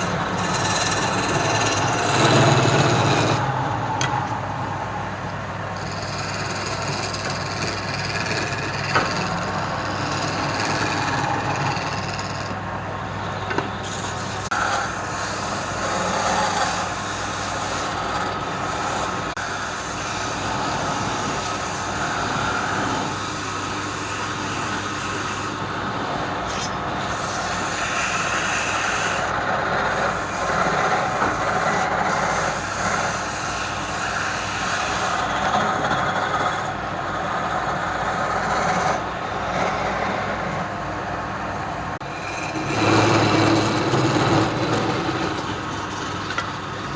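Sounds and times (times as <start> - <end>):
turning tool rasping on wood: 0.0 - 3.4, 5.8 - 12.6, 13.8 - 25.6, 26.5 - 40.5, 42.0 - 45.4
wood lathe motor hum: 0.0 - 4.4, 5.7 - 12.6, 13.5 - 40.8, 42.0 - 46.5.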